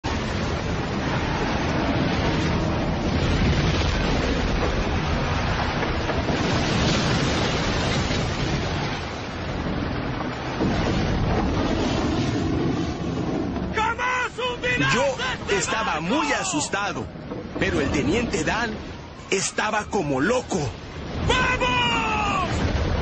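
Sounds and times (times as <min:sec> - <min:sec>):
rain: 0:00.0 - 0:23.0
waves: 0:00.0 - 0:23.0
wind rushing: 0:00.1 - 0:23.0.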